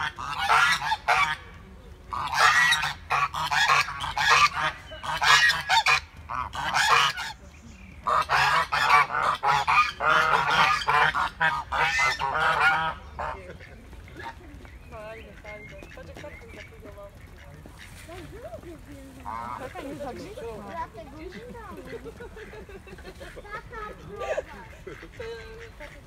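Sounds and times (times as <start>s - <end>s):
geese honking: 0.0s - 7.4s, 8.0s - 26.0s.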